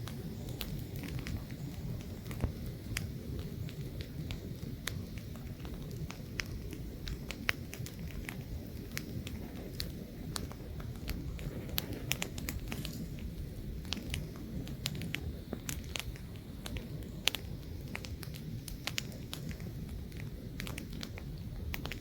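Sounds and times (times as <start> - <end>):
campfire crackling: 0.0 - 22.0
light wind rumble: 0.0 - 22.0.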